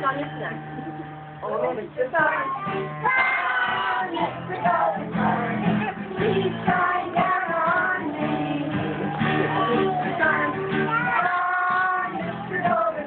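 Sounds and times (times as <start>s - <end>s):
guitar accompaniment: 0.0s - 13.0s
children and woman singing: 2.1s - 13.0s.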